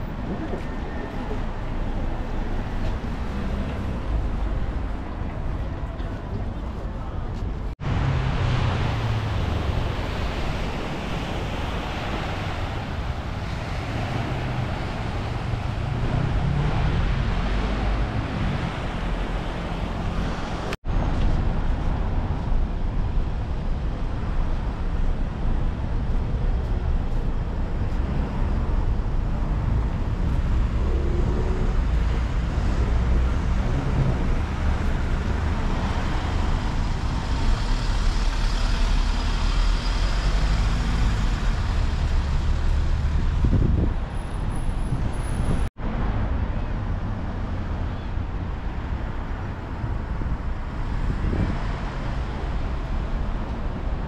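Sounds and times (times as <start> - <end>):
passing cars and buses: 0.0 - 54.0.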